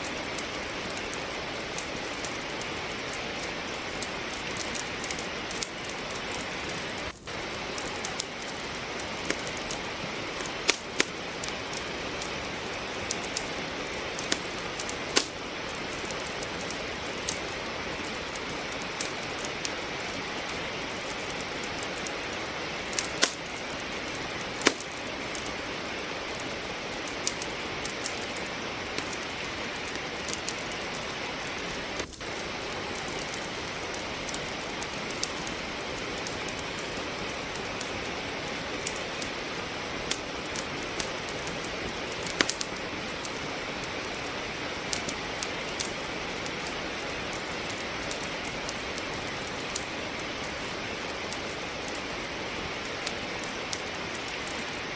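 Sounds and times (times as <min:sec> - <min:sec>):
steady rain: 0:00.0 - 0:54.9
wood fire crackling: 0:00.0 - 0:54.9.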